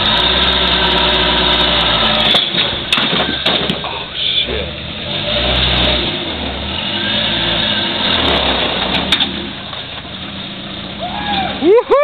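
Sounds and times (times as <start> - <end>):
engine pulling at low speed: 0.0 - 12.0.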